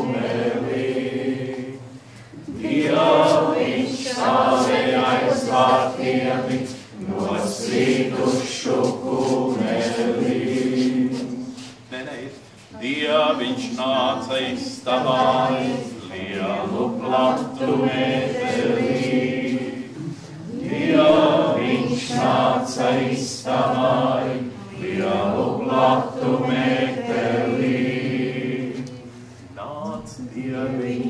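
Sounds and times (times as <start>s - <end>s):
group singing unaccompanied chant: 0.0s - 11.8s, 12.8s - 31.0s.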